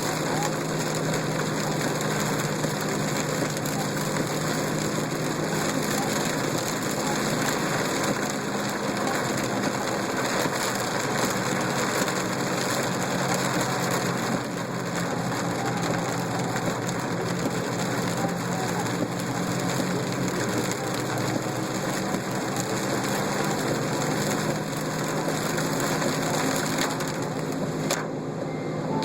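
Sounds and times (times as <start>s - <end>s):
heavy rain on car roof: 0.0s - 28.4s
car hum: 0.0s - 29.0s.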